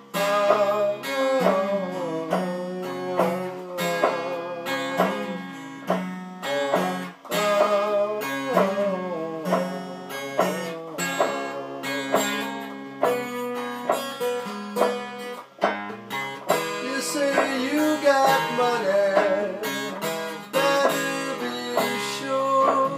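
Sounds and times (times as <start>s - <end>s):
amplified blues guitar: 0.0s - 22.9s.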